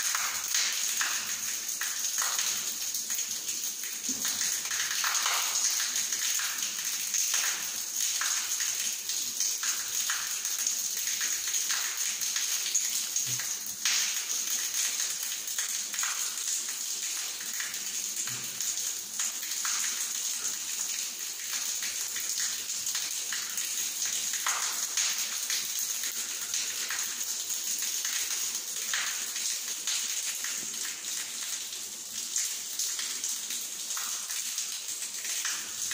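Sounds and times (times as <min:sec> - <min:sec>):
shower water splashing on tiles: 0:00.0 - 0:35.9.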